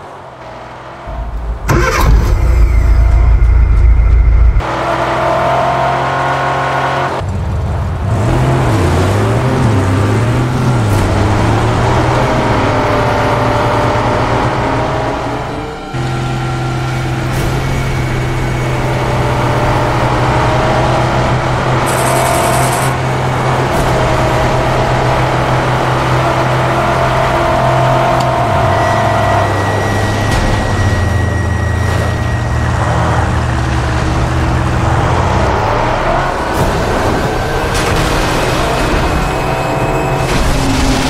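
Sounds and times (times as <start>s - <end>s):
vehicle engines droning: 0.0s - 41.0s.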